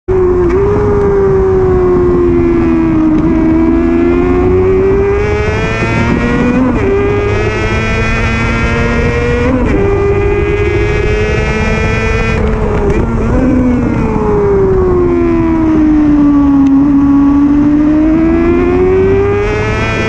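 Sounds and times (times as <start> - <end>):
motorcycle engine at high revs: 0.1 - 20.0.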